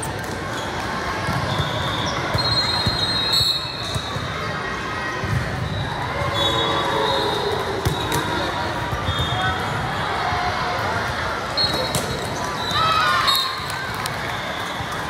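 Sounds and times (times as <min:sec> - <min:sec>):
spectators talking: 0:00.0 - 0:15.0.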